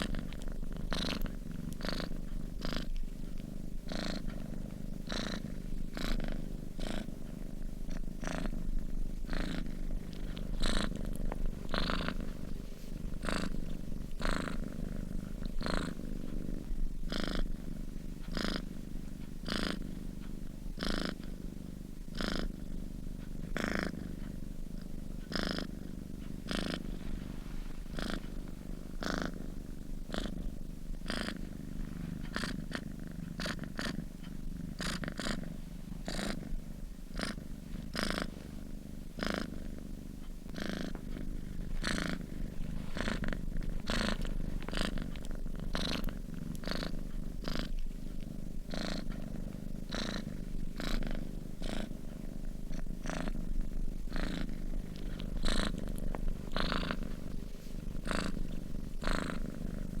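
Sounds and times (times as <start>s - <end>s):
cat purring: 0.0s - 60.0s.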